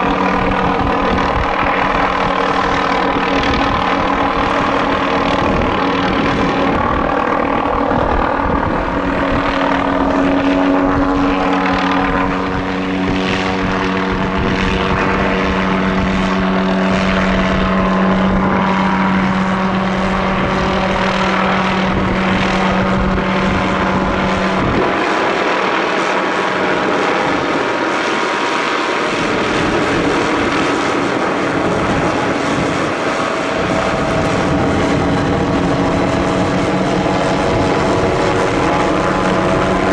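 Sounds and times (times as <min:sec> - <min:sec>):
helicopter high-pitched hum: 0:00.0 - 0:39.9
helicopter rotor noise: 0:00.0 - 0:39.9.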